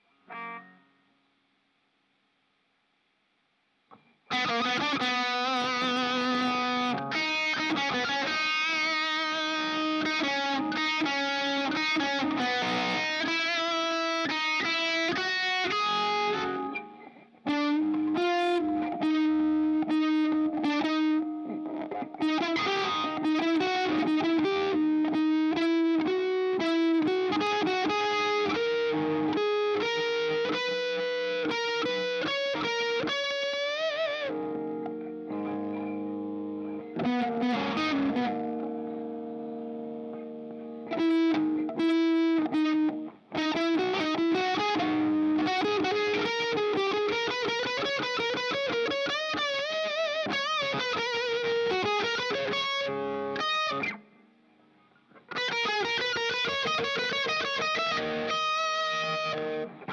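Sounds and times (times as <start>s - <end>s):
overdriven electric guitar: 0.0s - 1.0s, 3.9s - 59.9s.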